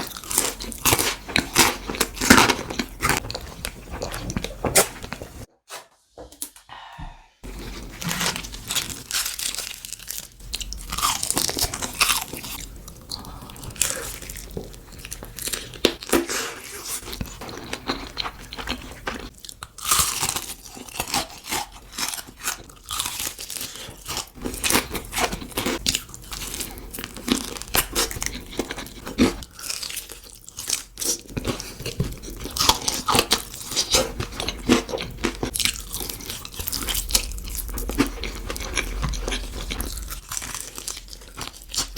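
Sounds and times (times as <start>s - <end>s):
chewing crunchy food: 0.0s - 5.5s, 7.4s - 41.9s.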